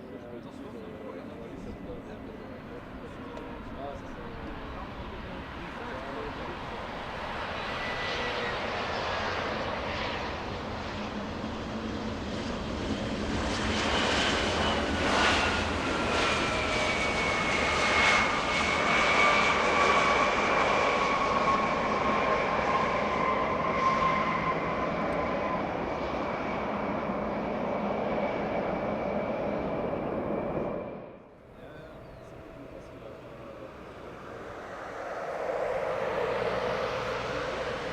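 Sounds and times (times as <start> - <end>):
jet engines passing by: 0.0 - 37.9.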